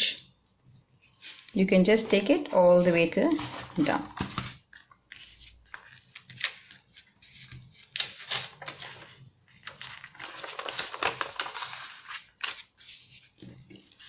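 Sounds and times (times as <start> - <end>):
paper and foil rustling: 1.2 - 13.2.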